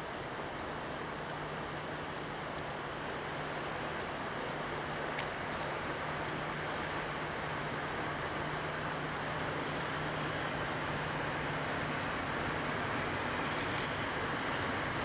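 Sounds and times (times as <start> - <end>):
diesel locomotive drone: 0.0 - 15.0
river water flowing over rocks: 0.0 - 15.0.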